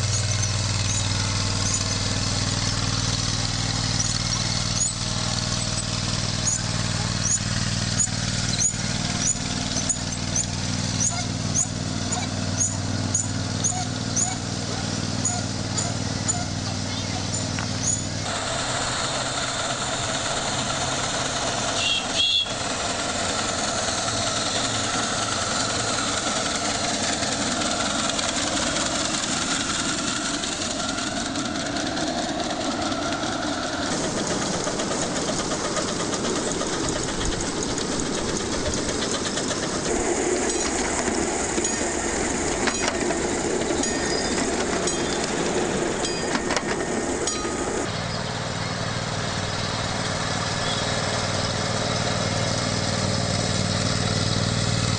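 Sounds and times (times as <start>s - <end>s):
high squeal of train: 0.0s - 54.2s
miniature train rumbling and rattling: 0.0s - 54.9s
wheels clicking over rail joints: 0.0s - 54.9s.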